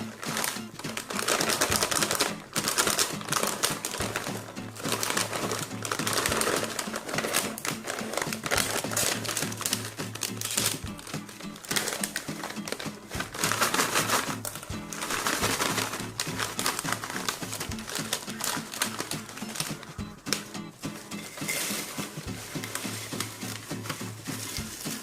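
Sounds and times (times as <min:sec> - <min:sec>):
background music: 0:00.0 - 0:25.0
fast clicking and tapping: 0:00.0 - 0:25.0.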